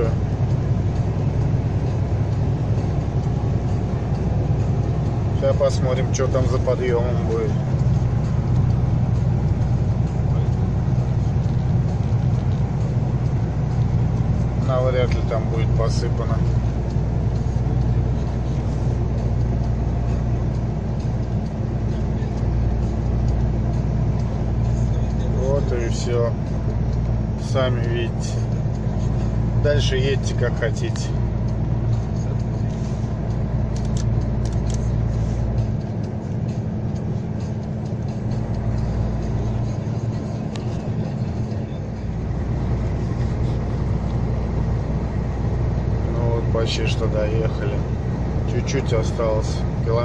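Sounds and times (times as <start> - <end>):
road noise: 0.0 - 50.0
truck diesel engine droning: 0.0 - 50.0.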